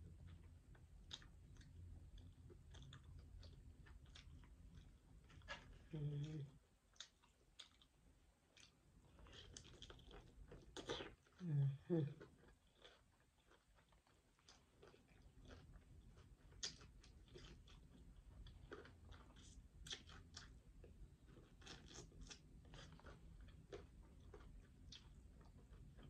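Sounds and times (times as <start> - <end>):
chewing fried chicken: 0.0 - 26.0.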